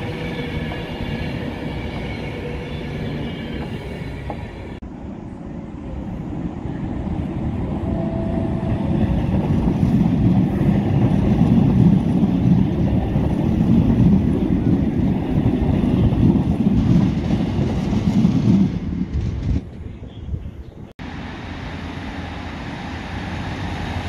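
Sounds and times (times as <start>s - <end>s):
passenger train rumbling past: 0.0s - 24.0s.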